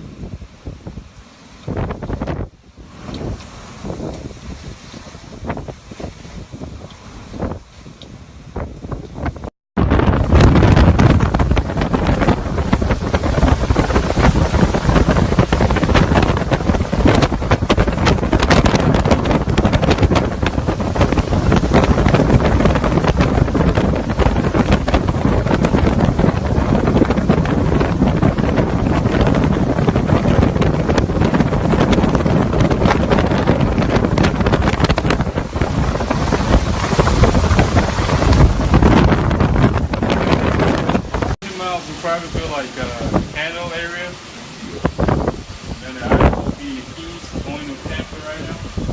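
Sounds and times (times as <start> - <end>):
strong wind blasting microphone: 0.0 - 48.9.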